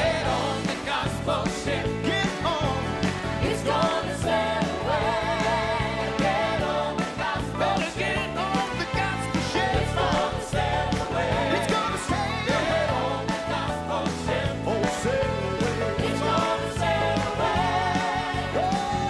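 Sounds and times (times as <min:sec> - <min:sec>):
gospel band playing: 0:00.0 - 0:19.0.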